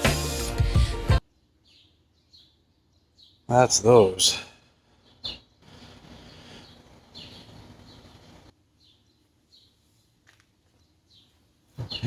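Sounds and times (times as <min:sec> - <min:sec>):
birds chirping: 0:01.3 - 0:12.0.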